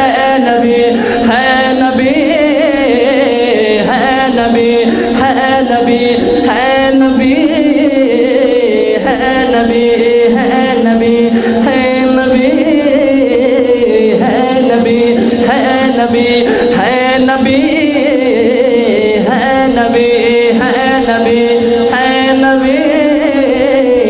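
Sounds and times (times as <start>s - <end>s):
man chanting into a microphone: 0.0s - 24.0s.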